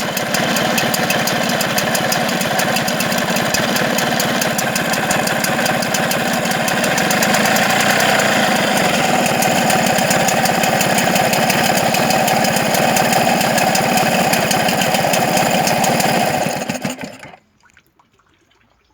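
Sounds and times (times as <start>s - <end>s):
engine running with pulsing beat: 0.0s - 17.3s.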